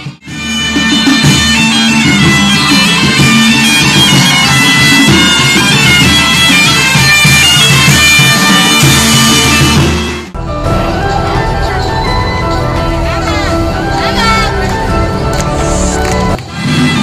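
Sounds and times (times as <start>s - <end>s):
bagpipes playing melody: 0.1s - 17.0s.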